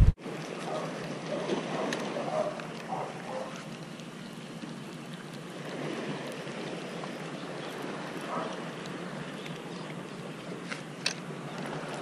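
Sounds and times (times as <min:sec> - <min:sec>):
sea water lapping: 0:00.0 - 0:12.0.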